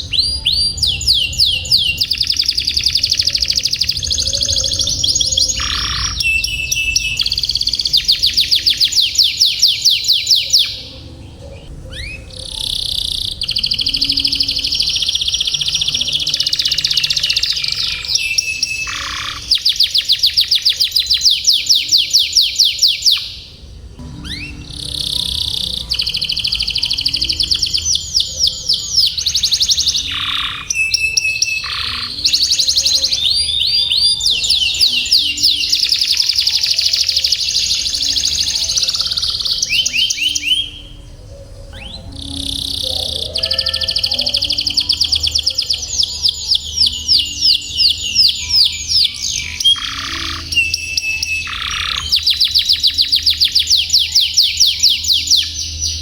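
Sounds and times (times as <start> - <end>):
canary singing rapid trills: 0.0 - 56.0.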